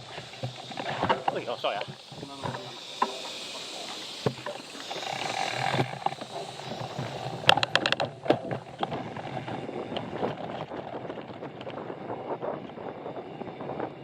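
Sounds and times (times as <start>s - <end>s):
bike tyre and wind rush: 0.0s - 14.0s
rattle of sharp clicks: 0.1s - 11.8s.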